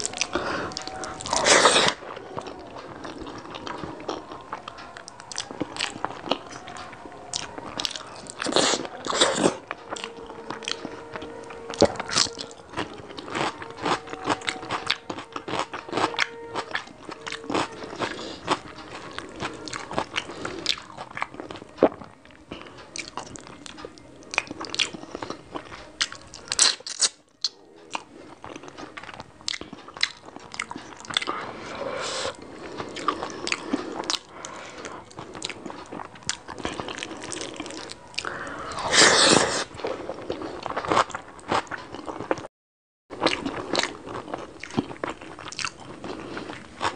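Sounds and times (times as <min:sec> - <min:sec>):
chewing with wet mouth clicks: 0:00.0 - 0:31.4, 0:32.4 - 0:42.5, 0:43.2 - 0:46.9.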